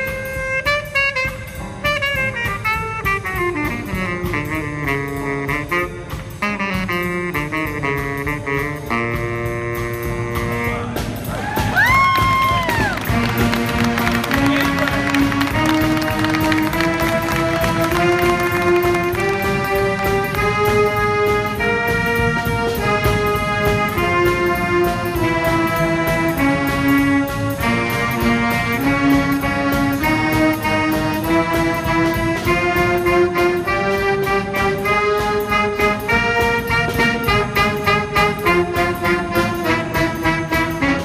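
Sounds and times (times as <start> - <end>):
held brass notes: 0.0 - 41.0
percussion beat: 0.0 - 41.0.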